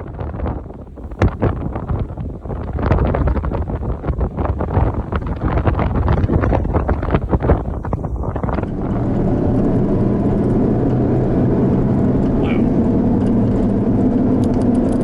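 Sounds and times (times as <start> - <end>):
vehicle running drone: 0.0 - 15.0
wind on microphone: 0.0 - 15.0.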